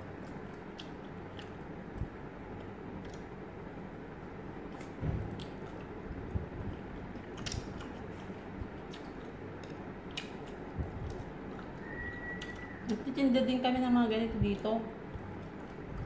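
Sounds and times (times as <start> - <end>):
people chewing meat: 0.0 - 3.6, 4.6 - 13.0, 15.0 - 16.0
low background hum: 0.0 - 16.0.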